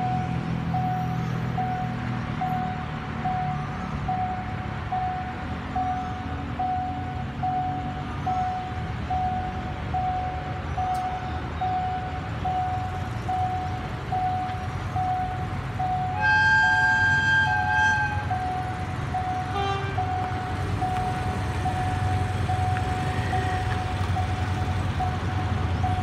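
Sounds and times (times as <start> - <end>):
level crossing warning tone: 0.0 - 26.0
low traffic rumble: 0.0 - 26.0.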